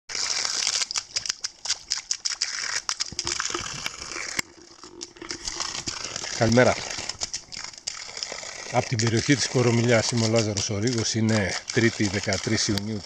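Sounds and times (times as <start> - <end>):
water running from hose: 0.1 - 13.0.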